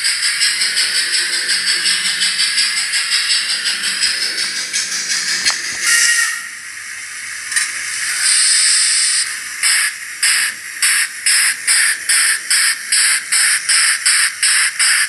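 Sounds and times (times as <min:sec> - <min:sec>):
model locomotive exhaust chuffs: 0:00.0 - 0:15.0
steam hiss: 0:00.0 - 0:15.0.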